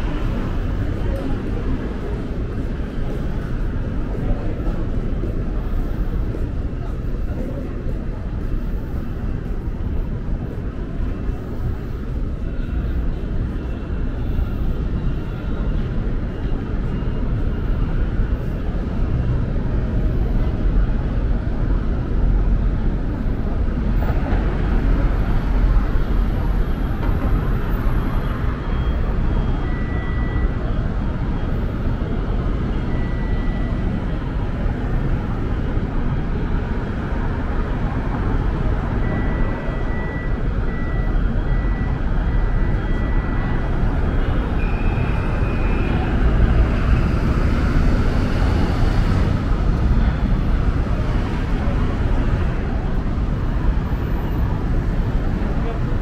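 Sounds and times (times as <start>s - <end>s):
rumble of passing vehicles: 0.0s - 56.0s.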